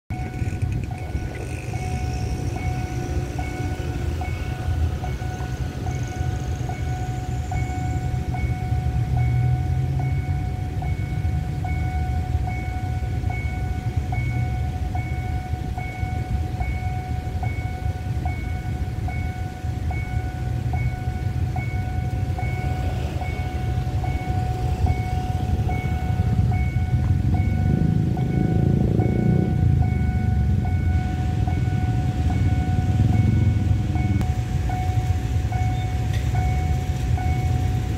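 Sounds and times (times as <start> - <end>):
level crossing warning beat: 0.1 - 37.9
train rumbling past: 0.1 - 37.9.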